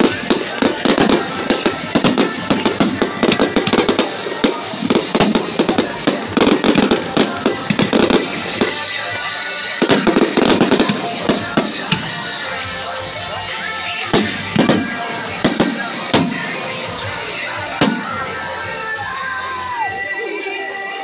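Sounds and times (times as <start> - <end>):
fireworks crackling and banging: 0.0 - 20.2.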